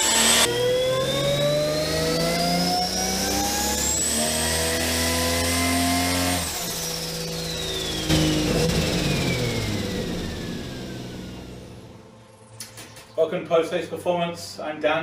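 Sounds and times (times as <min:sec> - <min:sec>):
engine at high rpm: 0:00.0 - 0:12.2
turbo whine spinning down: 0:00.0 - 0:12.6.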